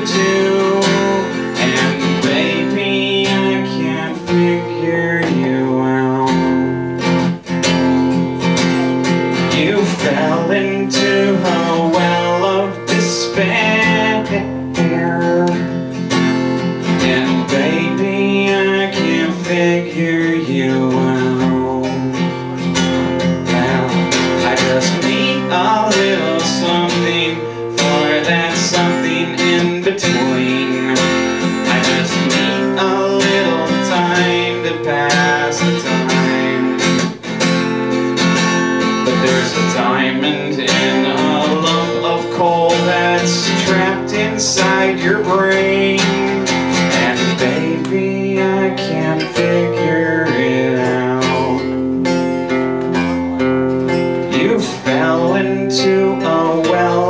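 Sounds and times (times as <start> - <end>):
acoustic guitar strumming chords: 0.0 - 57.0.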